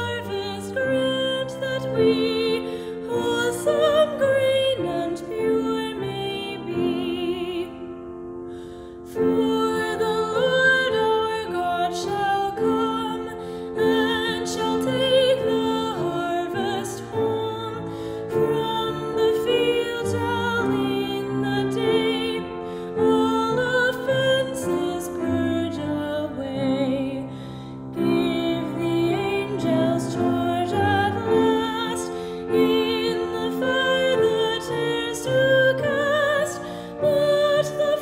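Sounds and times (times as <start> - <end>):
woman singing with vibrato: 0.0 - 8.0, 9.1 - 27.2, 28.0 - 38.0.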